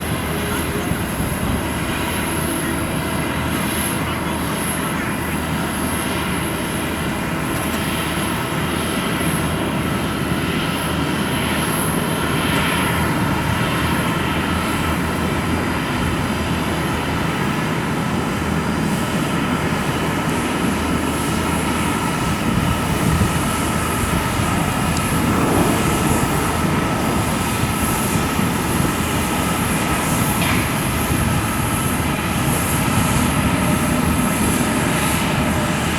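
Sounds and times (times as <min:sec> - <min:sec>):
jet engine roar with whine: 0:00.0 - 0:35.9.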